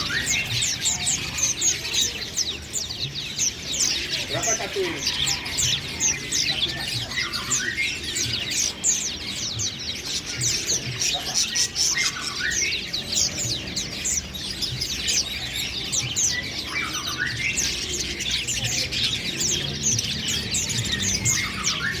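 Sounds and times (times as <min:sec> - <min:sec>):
budgerigar chattering: 0:00.0 - 0:22.0.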